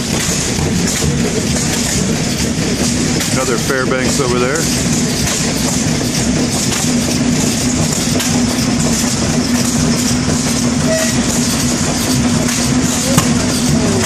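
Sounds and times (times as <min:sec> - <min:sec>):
large engines running: 0:00.0 - 0:14.0.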